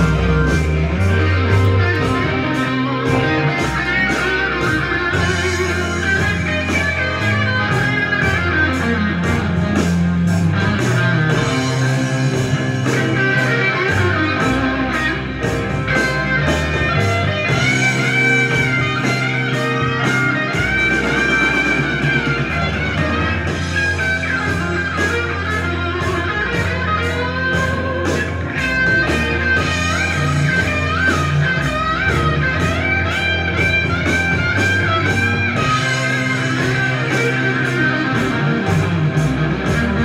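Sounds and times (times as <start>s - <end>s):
drum beat: 0.0s - 40.0s
electric guitar: 0.0s - 40.0s.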